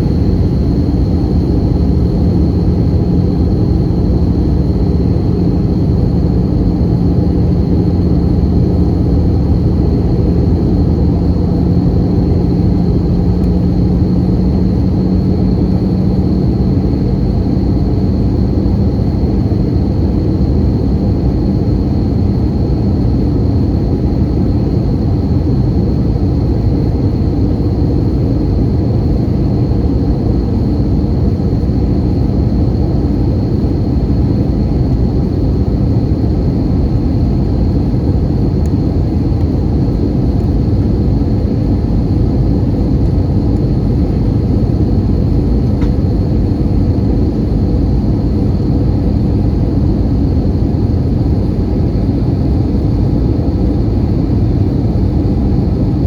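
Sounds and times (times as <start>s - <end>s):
aircraft cabin engine roar: 0.0s - 56.0s
low hum: 0.0s - 56.0s.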